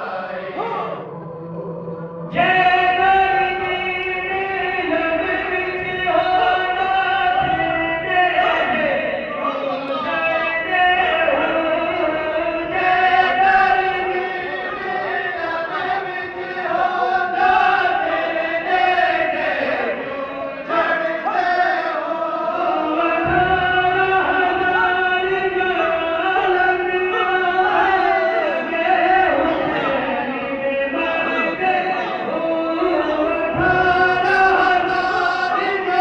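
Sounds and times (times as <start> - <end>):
men chanting together: 0.0 - 36.0.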